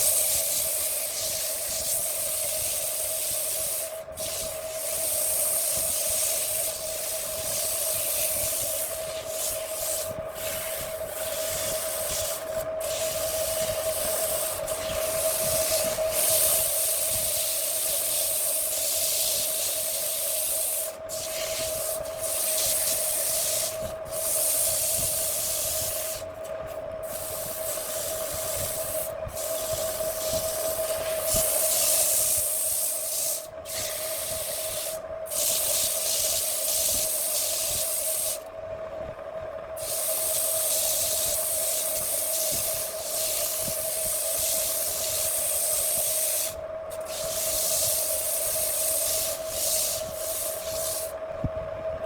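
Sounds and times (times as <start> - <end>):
tool scraping spinning wood: 0.0 - 38.5, 39.8 - 51.2.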